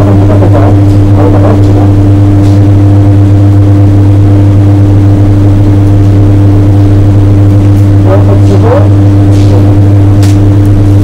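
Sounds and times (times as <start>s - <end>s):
welding arc electrical hum: 0.0s - 11.0s.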